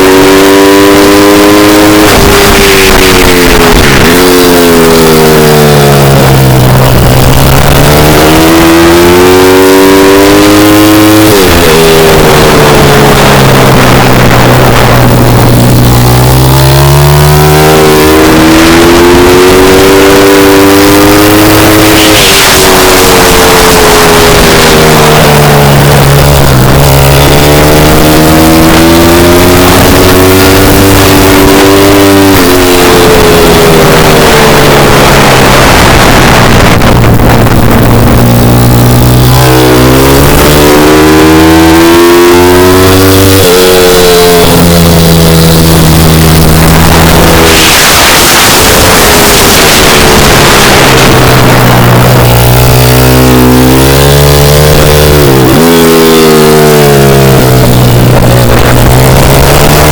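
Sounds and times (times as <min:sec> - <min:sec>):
constant rushing noise: 0:00.0 - 0:59.9
motorbike engine revving: 0:00.0 - 0:59.9.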